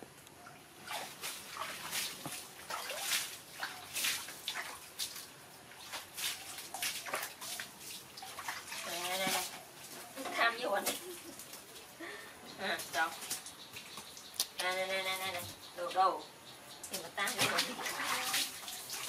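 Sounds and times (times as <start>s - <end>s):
water splashing in plastic tub: 0.8s - 12.0s, 12.6s - 15.5s, 16.8s - 19.0s.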